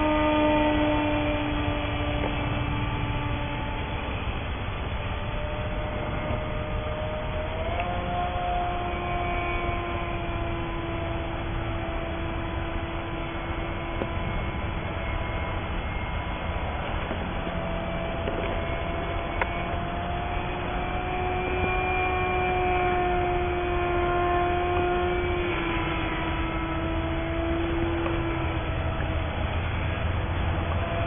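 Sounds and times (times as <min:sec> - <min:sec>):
electric motor whining: 0:00.0 - 0:31.0
wind rumble on microphone: 0:00.0 - 0:31.0.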